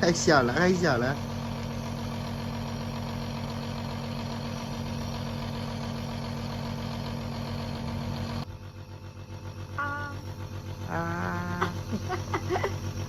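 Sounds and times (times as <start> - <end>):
nebulizer electric hum: 0.0 - 13.0.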